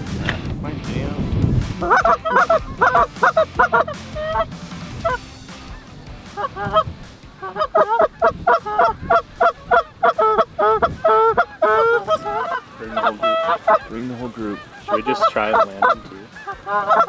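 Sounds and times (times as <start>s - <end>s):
goose honks and clucks: 1.8s - 17.0s.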